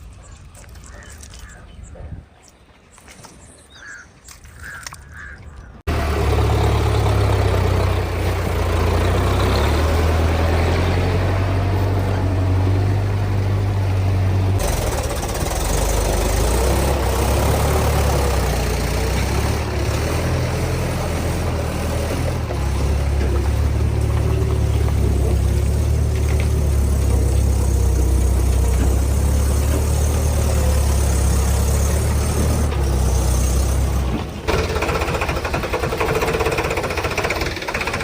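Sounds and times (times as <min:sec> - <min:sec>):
diesel tractor engine running: 0:04.7 - 0:38.0.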